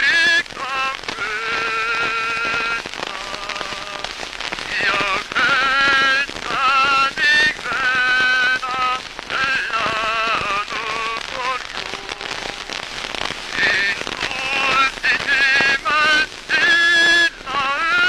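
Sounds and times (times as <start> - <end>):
crackle and hiss of surface noise: 0.0 - 18.0
man singing with vibrato: 0.0 - 18.0.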